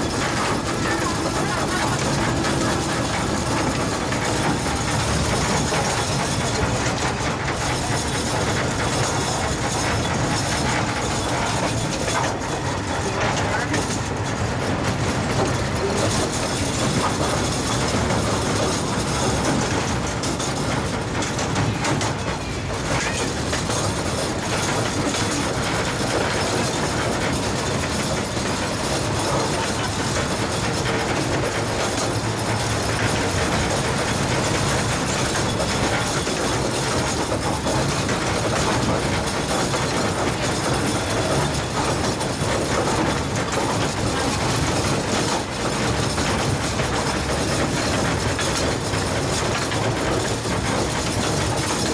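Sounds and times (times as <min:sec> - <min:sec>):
miniature train wheels rolling on track: 0:00.0 - 0:51.9.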